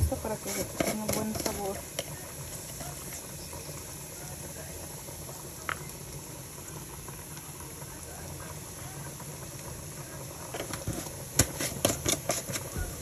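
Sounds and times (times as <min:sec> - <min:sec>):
food sizzling on stove: 0:00.0 - 0:13.0.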